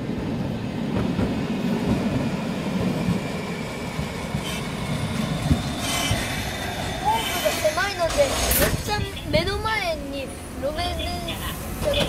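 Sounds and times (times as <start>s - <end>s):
streetcar rumbling on rails: 0.0s - 12.0s.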